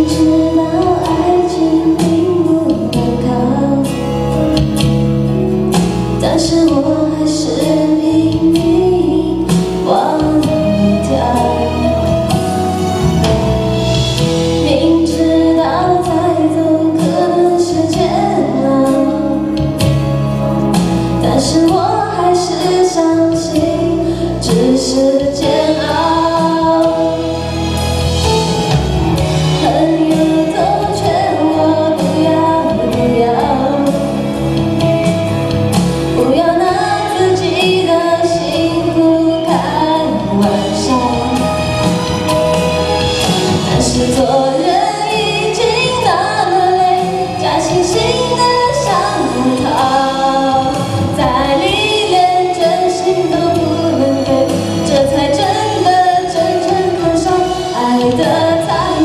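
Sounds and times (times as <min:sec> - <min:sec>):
woman singing into microphone: 0:00.0 - 0:04.8, 0:05.7 - 0:12.5, 0:14.5 - 0:20.0, 0:20.8 - 0:28.4, 0:29.5 - 0:35.0, 0:36.0 - 0:42.4, 0:43.0 - 0:59.0
pop music with bass and percussion: 0:00.0 - 0:59.0.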